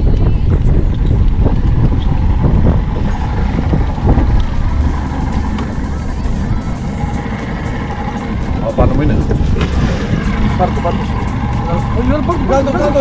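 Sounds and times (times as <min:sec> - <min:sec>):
choppy sea water: 0:00.0 - 0:13.0
wind buffeting microphone: 0:00.0 - 0:13.0.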